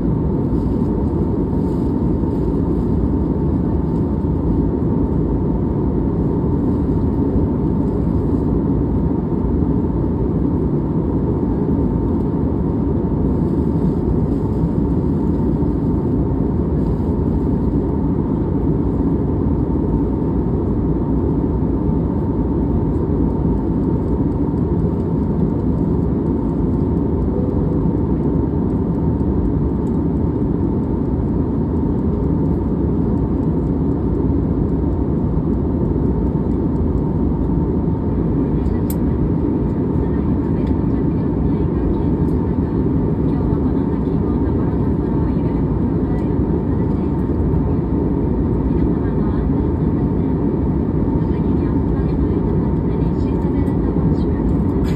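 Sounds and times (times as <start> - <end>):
airliner cabin engine rush: 0.0 - 54.9
faint steady whine: 0.0 - 54.9.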